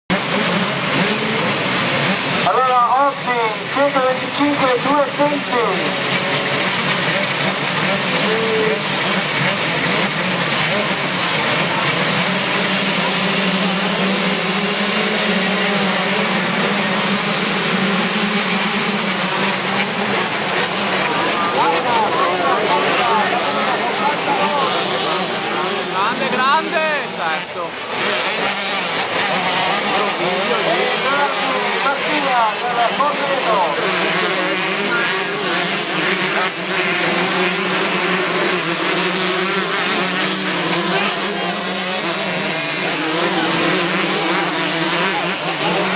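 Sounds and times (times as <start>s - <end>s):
two-stroke motocross engines revving: 0.0s - 45.9s.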